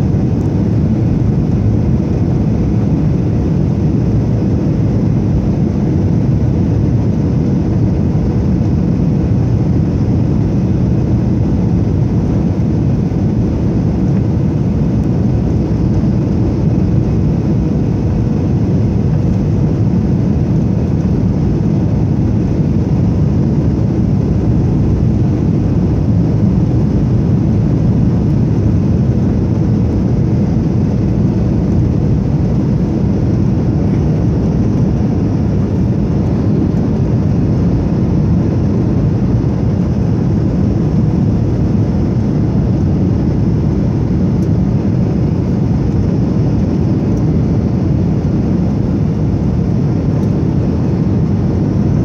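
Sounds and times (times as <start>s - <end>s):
airplane cabin engine rush: 0.0s - 52.0s
faint steady hum: 0.0s - 52.0s.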